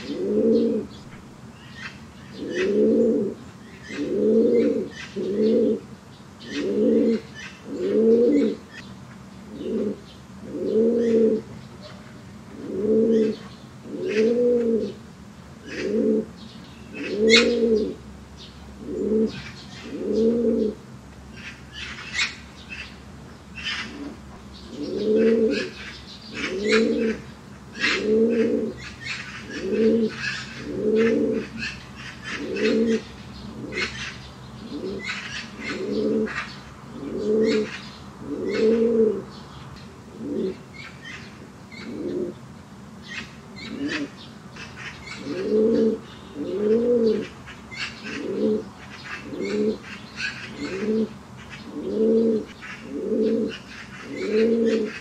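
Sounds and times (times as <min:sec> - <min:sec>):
pigeons cooing: 0:00.0 - 0:08.9, 0:09.5 - 0:15.0, 0:15.6 - 0:18.0, 0:18.8 - 0:20.8, 0:23.6 - 0:39.4, 0:40.0 - 0:42.4, 0:43.0 - 0:55.0.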